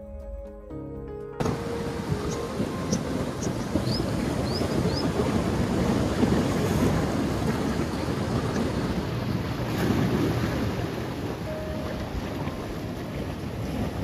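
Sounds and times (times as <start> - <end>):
sea surf washing through rocks: 1.4 - 14.0
wind buffeting microphone: 1.4 - 14.0.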